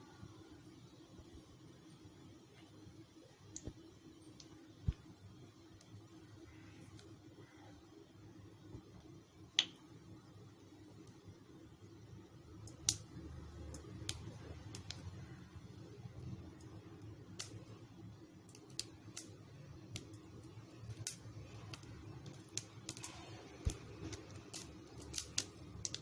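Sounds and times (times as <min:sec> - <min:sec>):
seeds popping in hot oil: 0:00.3 - 0:26.0.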